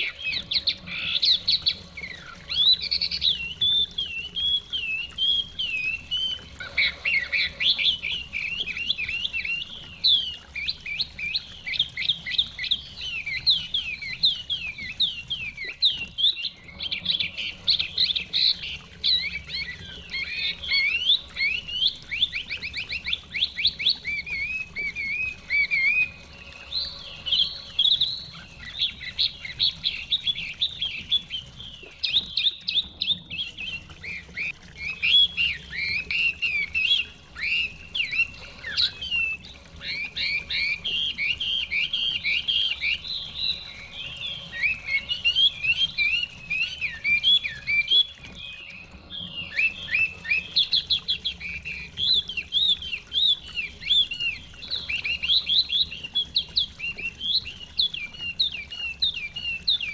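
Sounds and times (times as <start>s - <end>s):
bird singing whistled trills: 0.0s - 59.9s.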